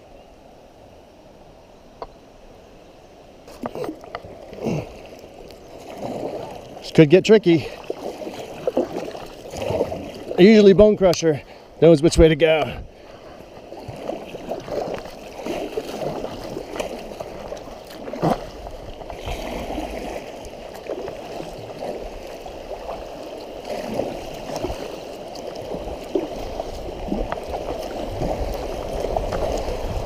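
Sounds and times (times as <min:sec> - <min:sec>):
river water rushing: 0:03.2 - 0:30.0
water splashes: 0:03.4 - 0:30.0.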